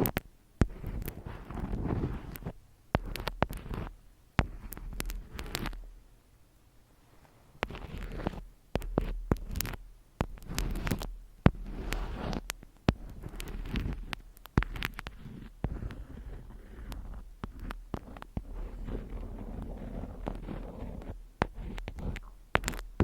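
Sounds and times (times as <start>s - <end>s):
sharp taps and clicks: 0.0s - 5.9s, 7.6s - 23.0s
rustling and scratching: 0.0s - 6.0s, 6.9s - 23.0s.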